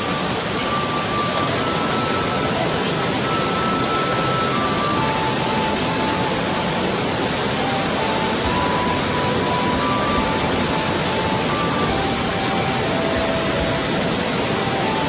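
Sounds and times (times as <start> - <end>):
faint music of held notes: 0.0 - 15.0
stream rushing over rapids: 0.0 - 15.0.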